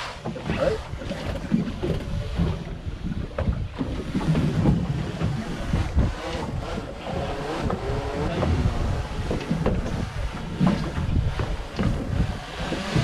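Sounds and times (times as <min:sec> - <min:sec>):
wind buffeting microphone: 0:00.0 - 0:13.0
drone propeller whine: 0:01.6 - 0:13.0.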